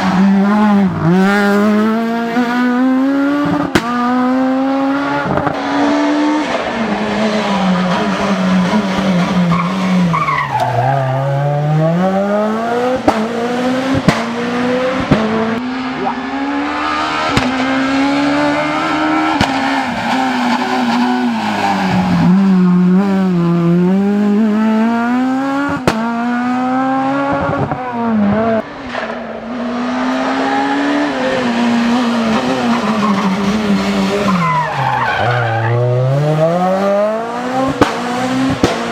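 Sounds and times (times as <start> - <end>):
rally car engine at high revs: 0.0 - 38.9.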